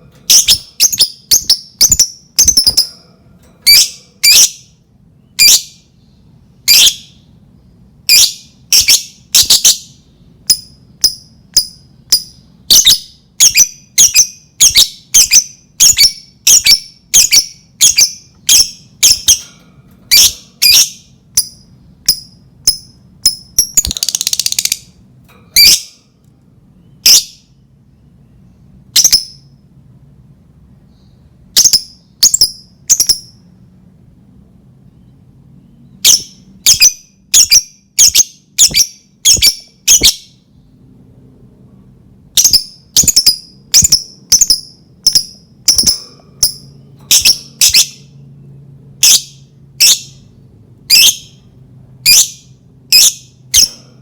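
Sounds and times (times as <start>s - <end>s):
lovebird chirping: 0.2s - 3.0s, 3.6s - 7.3s, 8.1s - 19.5s, 20.1s - 25.0s, 25.6s - 26.0s, 26.7s - 29.6s, 30.9s - 33.4s, 34.9s - 40.4s, 42.4s - 53.8s.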